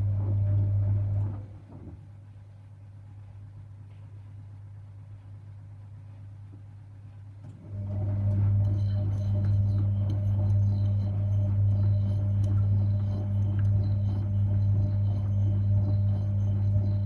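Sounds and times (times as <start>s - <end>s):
washing machine motor hum: 0.0s - 3.9s, 4.8s - 17.0s.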